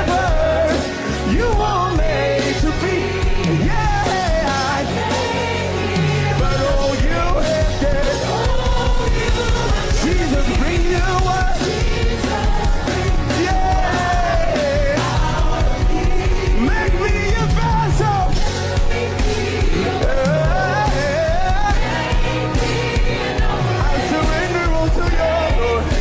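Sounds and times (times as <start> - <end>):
gospel band playing: 0.0 - 26.0.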